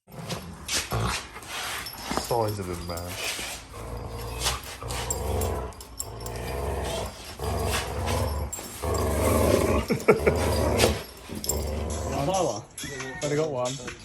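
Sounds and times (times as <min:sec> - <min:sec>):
dog growling: 0:00.1 - 0:12.7.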